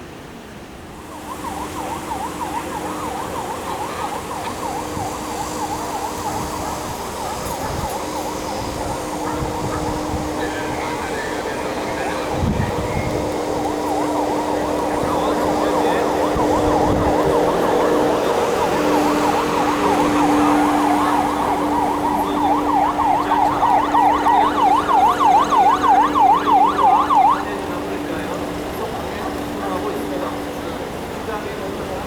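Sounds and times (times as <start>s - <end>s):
loud pulsing siren: 0.9s - 31.5s
electronic yelp sirens: 1.0s - 31.5s.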